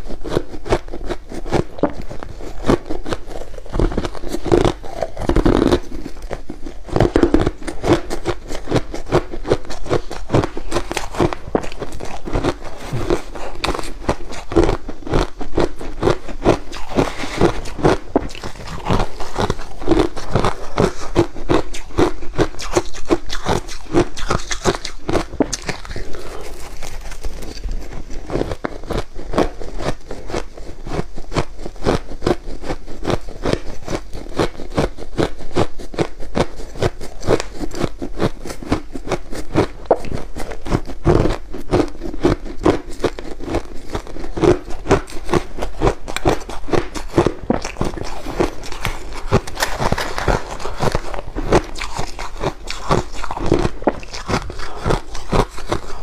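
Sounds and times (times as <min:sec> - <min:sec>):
chewing crushed ice: 0:00.0 - 0:56.0.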